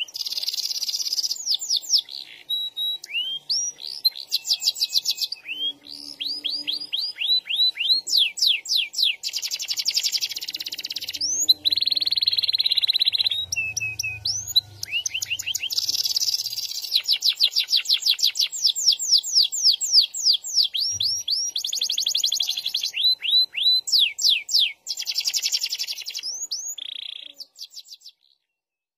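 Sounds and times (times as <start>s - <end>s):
canary singing: 0.0s - 28.6s.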